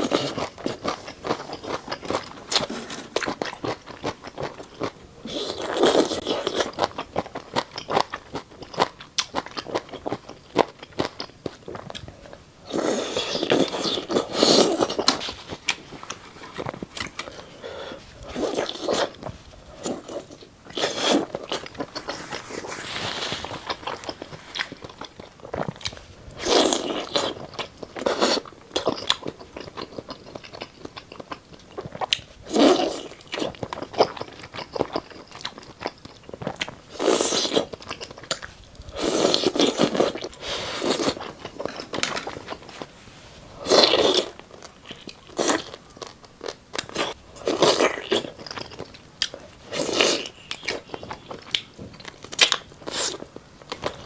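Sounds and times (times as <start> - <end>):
chewing with mouth clicks: 0.0 - 22.7, 23.4 - 42.8, 43.7 - 54.0.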